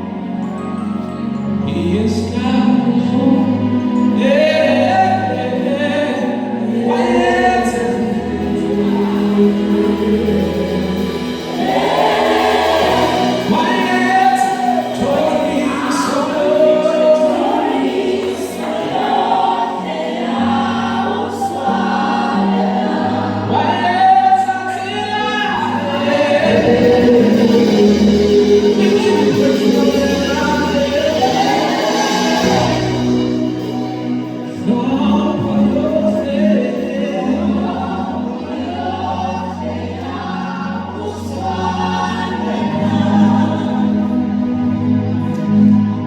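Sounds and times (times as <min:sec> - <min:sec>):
gospel choir singing: 0:00.0 - 0:46.0
low held bass notes: 0:00.0 - 0:46.0.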